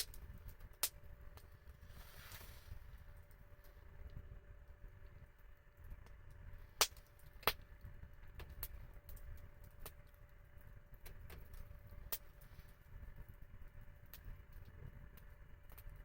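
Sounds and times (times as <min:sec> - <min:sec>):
campfire crackling and popping: 0:00.0 - 0:16.0
low rumble: 0:00.0 - 0:16.0.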